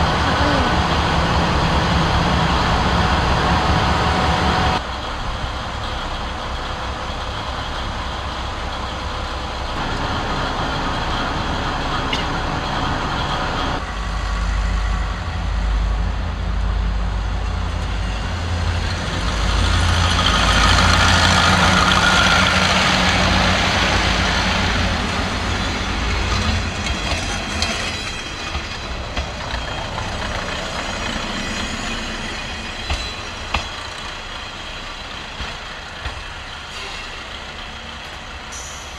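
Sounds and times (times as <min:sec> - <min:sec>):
diesel railcar engines rumbling: 0:00.0 - 0:38.9.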